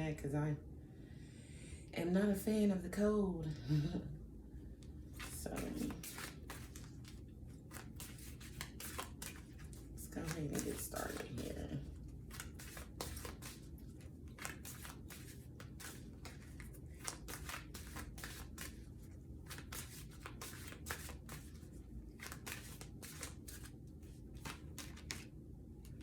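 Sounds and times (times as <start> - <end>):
cards being shuffled by hand: 5.1 - 26.0.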